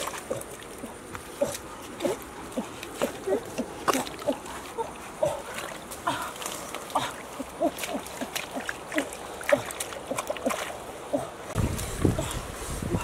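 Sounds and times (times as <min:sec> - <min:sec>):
hands splashing in muddy water: 0:00.0 - 0:12.2.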